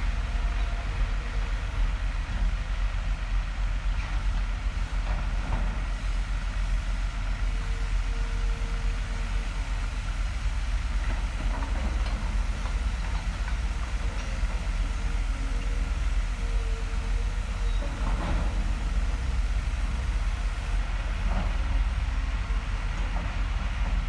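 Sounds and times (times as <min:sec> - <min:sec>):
heavy engine rumbling: 0:00.0 - 0:24.0.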